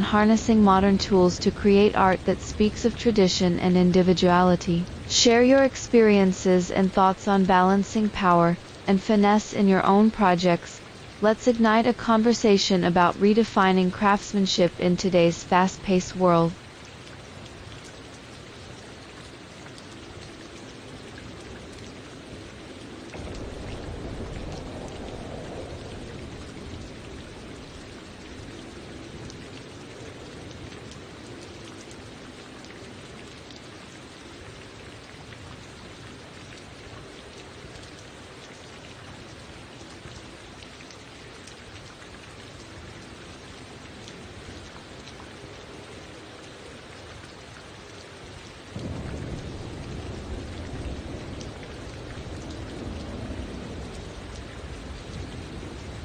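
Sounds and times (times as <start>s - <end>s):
raindrop ticks: 0.0s - 56.0s
steady rain falling: 0.0s - 56.0s.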